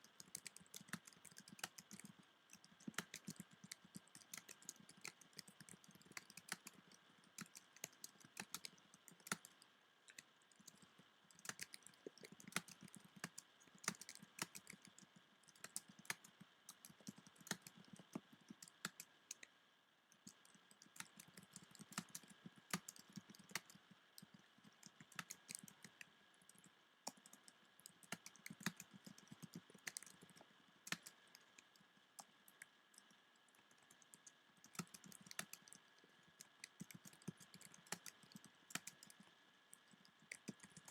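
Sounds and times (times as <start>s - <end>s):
keyboard typing: 0.0s - 9.6s, 10.6s - 19.4s, 20.2s - 32.3s, 33.0s - 39.2s, 39.8s - 40.9s.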